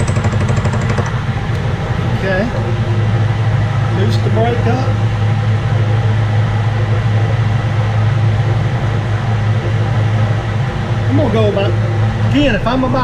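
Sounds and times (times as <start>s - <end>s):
milling machine motor hum: 0.0s - 13.0s.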